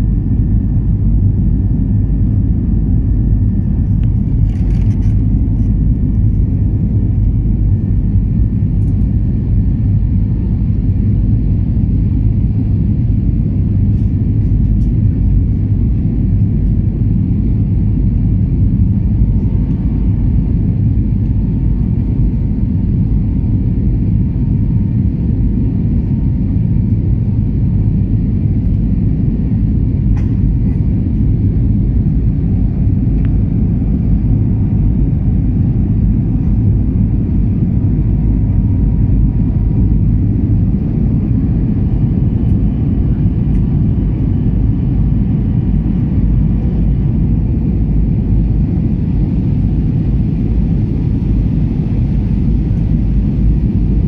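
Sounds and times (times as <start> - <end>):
airplane cabin low rumble: 0.0 - 54.0.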